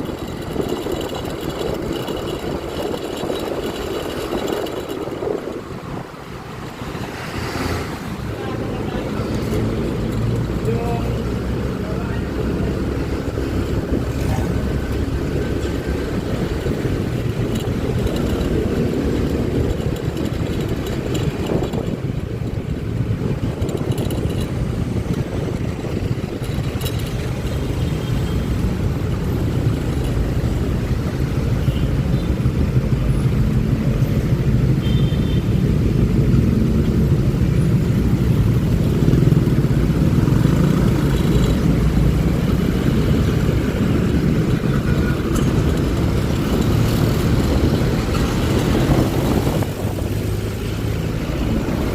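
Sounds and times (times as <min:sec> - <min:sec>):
scooter engine running: 0:00.0 - 0:51.9
wind and road noise: 0:00.0 - 0:51.9.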